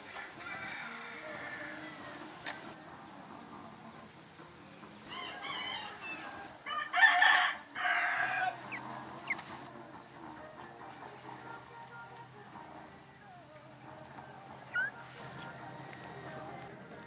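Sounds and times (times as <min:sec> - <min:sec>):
chicken calling: 0:00.0 - 0:09.8, 0:13.1 - 0:17.0.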